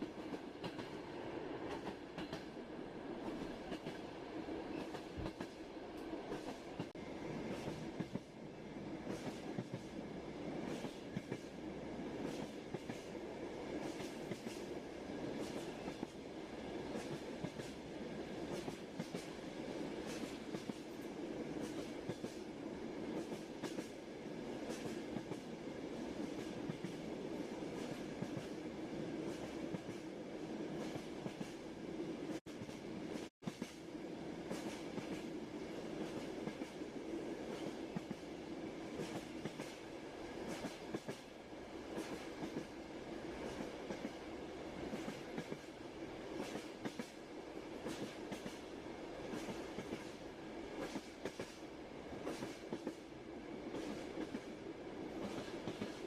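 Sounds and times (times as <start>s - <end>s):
railway carriage rumbling: 0.0s - 56.0s.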